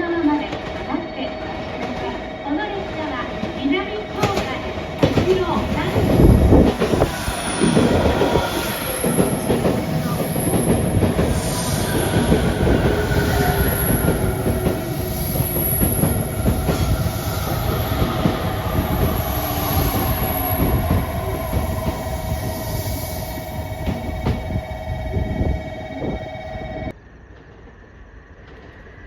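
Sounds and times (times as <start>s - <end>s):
train wheels rumbling on track: 0.0s - 26.9s
thin whining tones: 3.6s - 26.9s.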